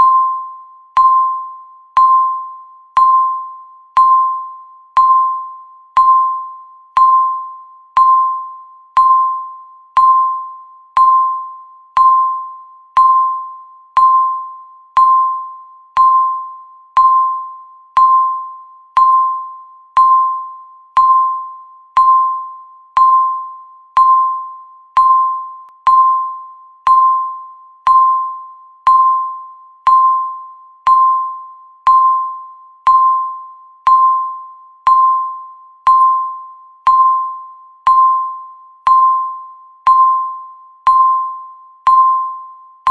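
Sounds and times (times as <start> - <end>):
countdown timer beeping: 1.0 - 42.9.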